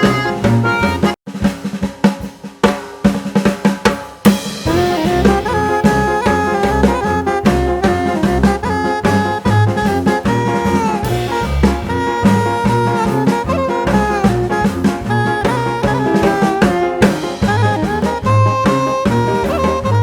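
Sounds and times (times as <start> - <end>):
upbeat swing music with horns: 0.0 - 2.8, 3.4 - 20.0.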